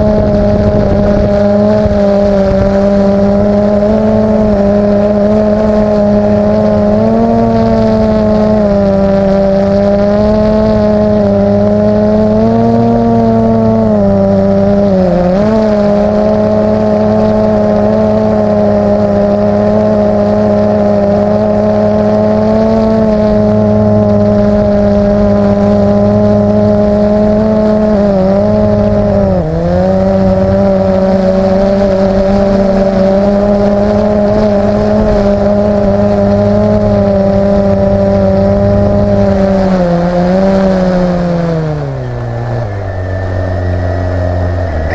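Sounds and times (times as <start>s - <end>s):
drone propellers humming: 0.0s - 44.9s.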